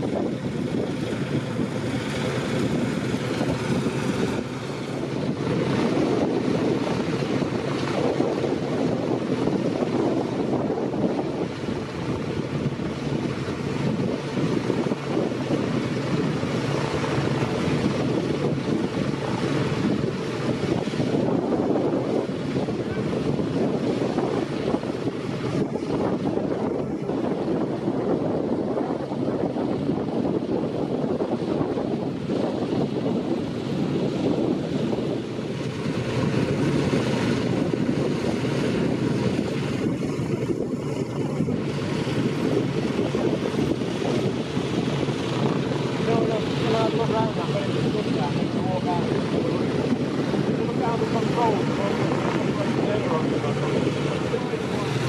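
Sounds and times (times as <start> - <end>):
propeller aircraft engine running: 0.0 - 55.0
wind buffeting microphone: 0.0 - 55.0.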